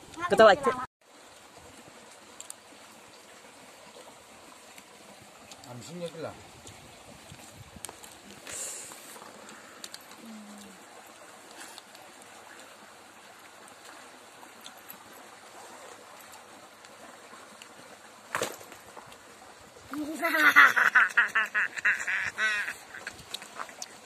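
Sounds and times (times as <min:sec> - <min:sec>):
stream flowing over stones: 0:00.0 - 0:24.0.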